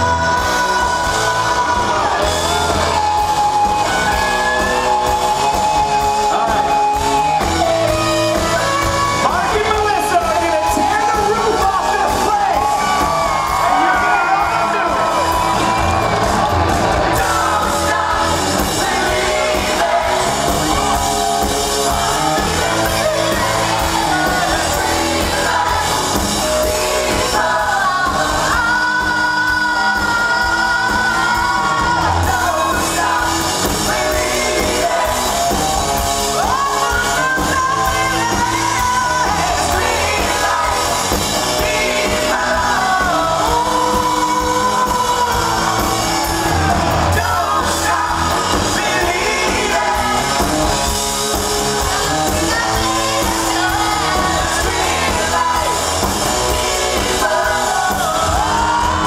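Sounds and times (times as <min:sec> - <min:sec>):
live pop rock band playing: 0:00.0 - 0:59.0
person singing: 0:00.0 - 0:59.0.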